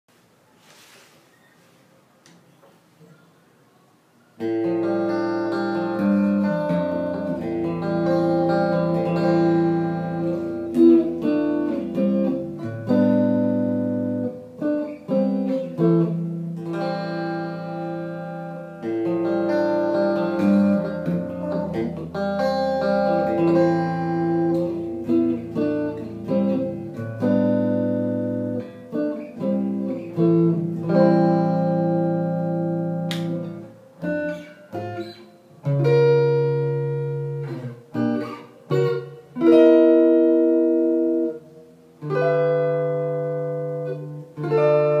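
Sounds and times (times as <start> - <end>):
electric guitar through amp: 4.4 - 45.0.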